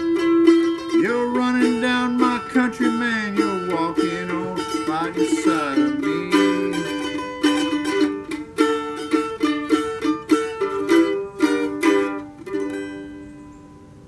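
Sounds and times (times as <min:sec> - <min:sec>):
plucked string instrument strumming chords: 0:00.0 - 0:14.0.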